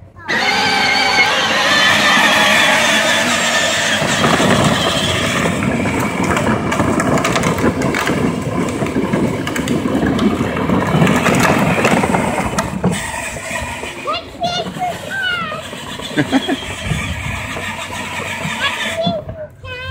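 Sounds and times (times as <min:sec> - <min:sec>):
electric toy car motors whining: 0:00.2 - 0:19.9
plastic wheels rattling on asphalt: 0:00.2 - 0:19.9.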